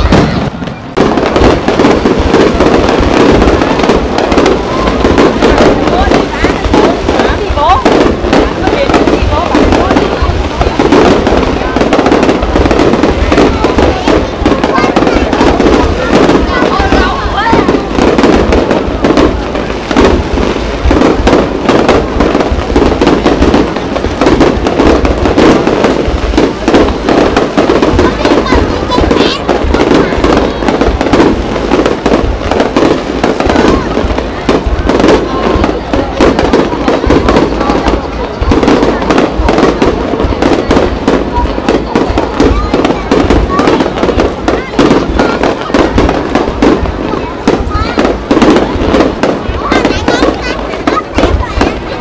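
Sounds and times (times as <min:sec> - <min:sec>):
fireworks bursting and crackling: 0:00.0 - 0:52.0.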